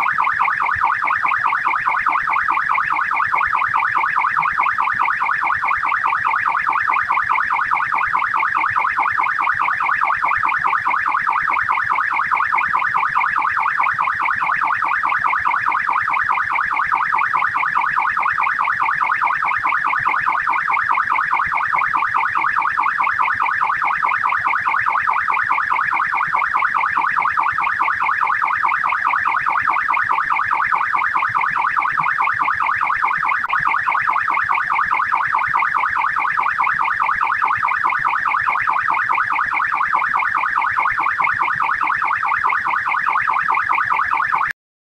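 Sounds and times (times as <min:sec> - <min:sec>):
police siren yelping: 0:00.0 - 0:44.6.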